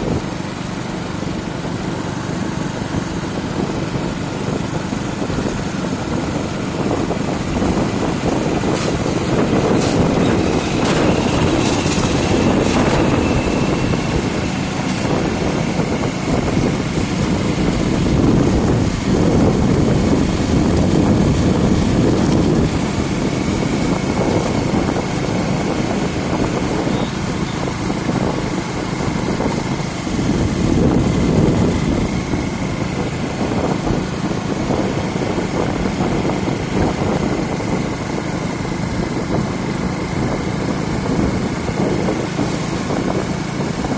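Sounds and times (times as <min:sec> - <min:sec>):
motorcycle engine and road rumble: 0:00.0 - 0:43.9.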